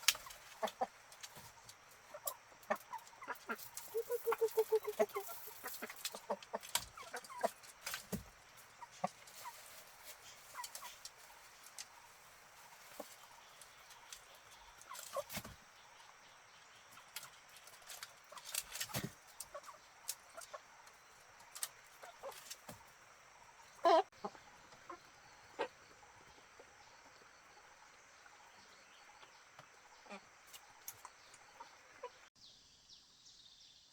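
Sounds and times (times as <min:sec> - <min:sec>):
chickens clucking: 0:00.0 - 0:32.3.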